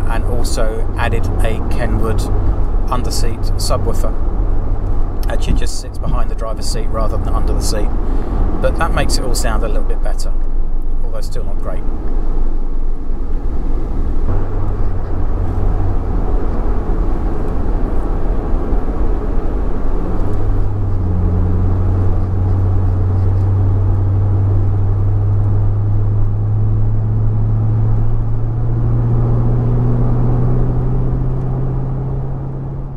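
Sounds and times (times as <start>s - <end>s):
car engine while driving: 0.0s - 32.9s
road noise: 0.0s - 32.9s.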